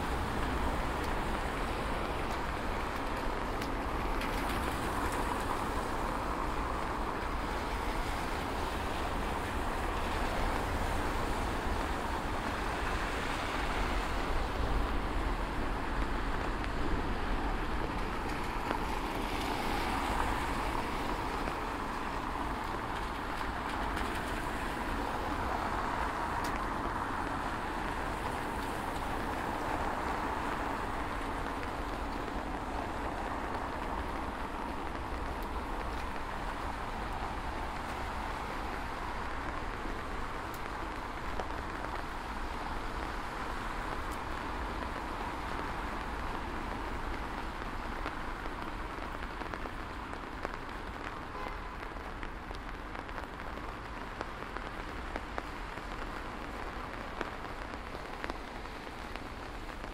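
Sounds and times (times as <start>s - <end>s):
traffic on wet street: 0.0s - 59.9s.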